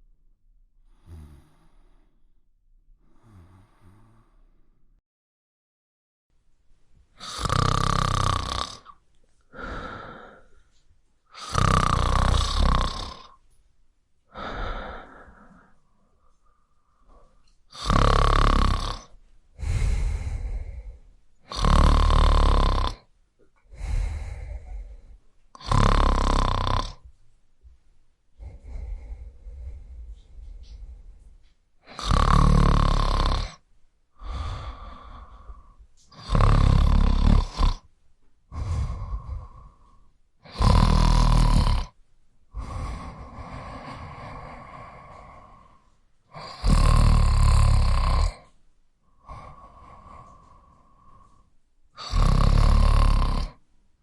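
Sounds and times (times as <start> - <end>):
quiet breath: 0.8 - 2.4, 3.0 - 5.0, 8.8 - 11.6, 12.4 - 54.0
person snoring: 0.9 - 2.2, 3.0 - 4.6, 7.2 - 10.6, 11.3 - 13.4, 14.3 - 16.3, 17.0 - 23.1, 23.7 - 27.0, 28.4 - 33.6, 34.2 - 37.9, 38.5 - 53.6.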